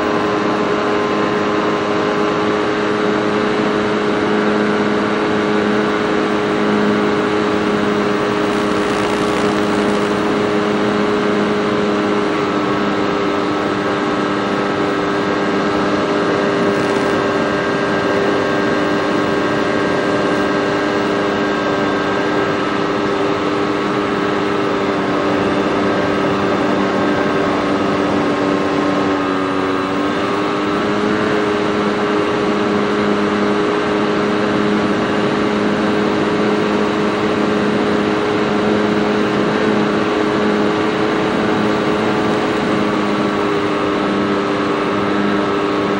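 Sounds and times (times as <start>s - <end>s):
model airplane motor and propeller: 0.0s - 45.9s.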